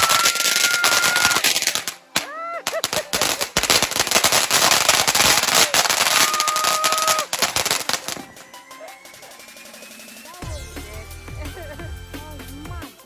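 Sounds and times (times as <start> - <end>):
firework crackling and popping: 0.0 - 10.6.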